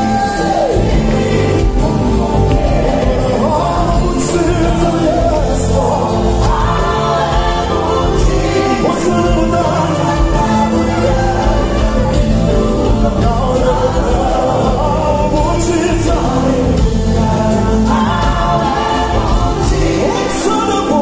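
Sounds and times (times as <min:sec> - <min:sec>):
group of people singing: 0:00.0 - 0:21.0
live rock band playing: 0:00.0 - 0:21.0.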